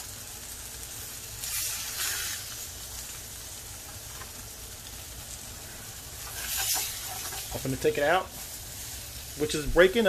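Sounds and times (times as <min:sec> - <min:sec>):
fish sizzling in frying pan: 0:00.0 - 0:10.0.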